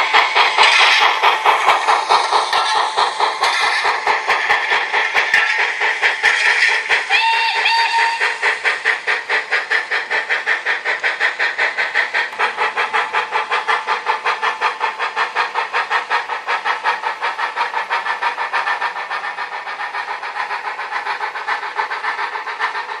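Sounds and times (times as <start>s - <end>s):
model steam locomotive chuffs: 0.0s - 23.0s.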